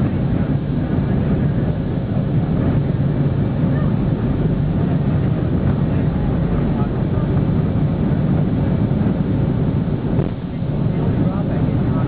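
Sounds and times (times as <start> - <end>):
jet engine and cabin rumble: 0.0 - 12.0.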